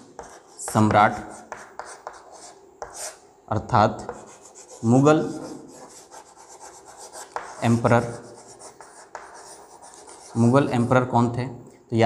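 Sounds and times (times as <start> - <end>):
chalk scratching on blackboard: 0.0 - 3.2, 4.0 - 11.0.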